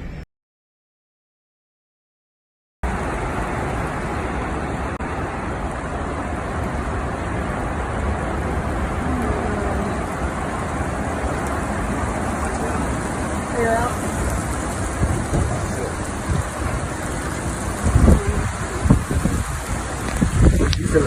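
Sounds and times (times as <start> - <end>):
deep low rumble: 2.8 - 21.0
heavy rain hissing: 2.8 - 21.0
road or wind noise: 2.8 - 21.0.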